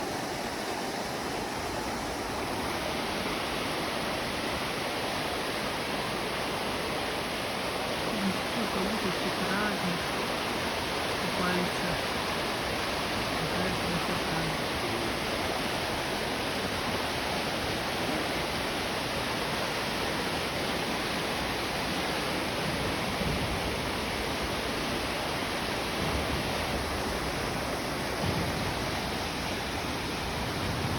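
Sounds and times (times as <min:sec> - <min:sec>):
flowing water rushing: 0:00.0 - 0:30.9.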